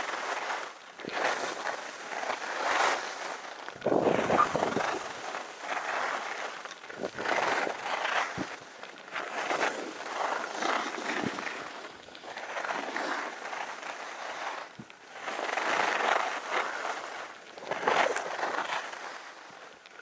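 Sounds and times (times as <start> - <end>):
skis scraping on snow: 0.0 - 20.0.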